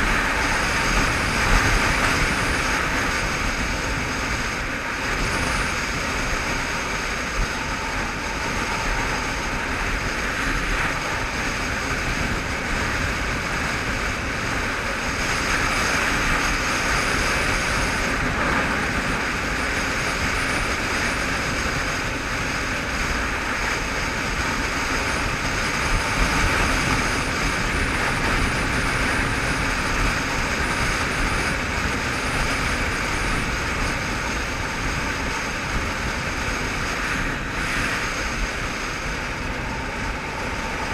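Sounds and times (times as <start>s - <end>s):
motorcycle engine drone: 0.0s - 40.9s
wind rushing over microphone: 0.0s - 40.9s.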